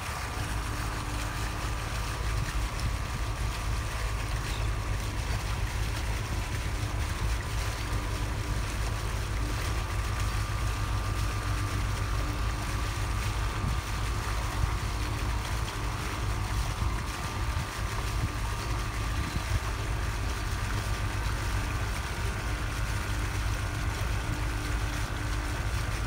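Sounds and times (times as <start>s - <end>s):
boat engine rumble: 0.0s - 26.0s
faint steady whine: 0.0s - 26.0s.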